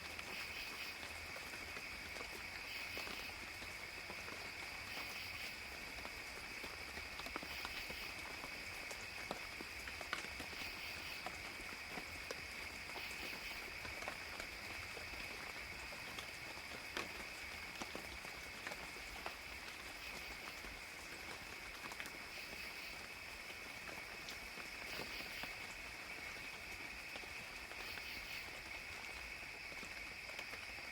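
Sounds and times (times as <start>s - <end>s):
gentle rain patter: 0.0s - 30.9s
high insect chorus: 0.0s - 30.9s.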